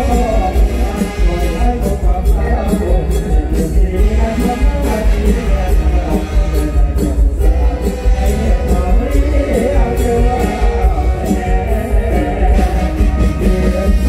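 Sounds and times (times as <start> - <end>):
live band amplified music: 0.0 - 14.0.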